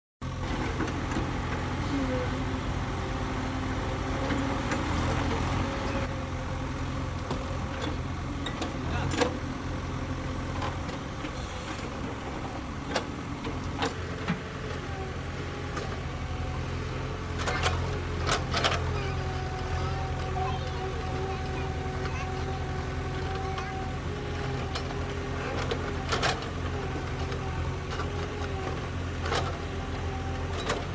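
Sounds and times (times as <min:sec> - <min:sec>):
heavy machinery diesel engine: 0:00.2 - 0:30.9.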